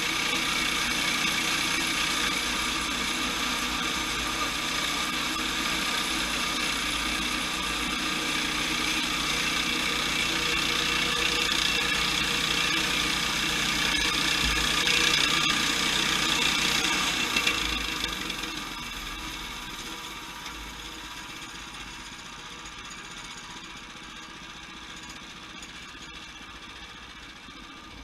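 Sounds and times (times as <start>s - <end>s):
sawmill milling a log: 0.0s - 28.0s.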